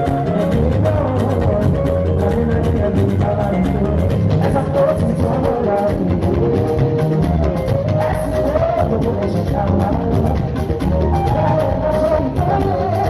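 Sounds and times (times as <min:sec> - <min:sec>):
music with quick drumbeat: 0:00.0 - 0:13.0.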